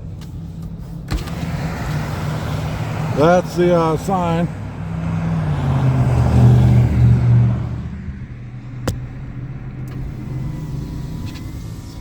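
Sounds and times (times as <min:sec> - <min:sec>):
car engine accelerating: 0:01.3 - 0:12.0.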